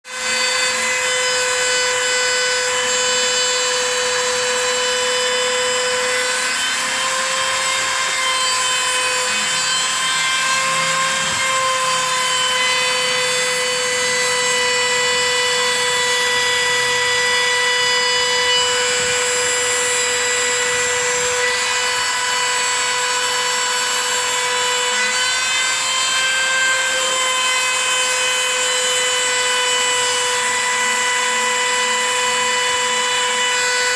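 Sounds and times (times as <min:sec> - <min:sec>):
router spindle whining: 0:00.1 - 0:33.9.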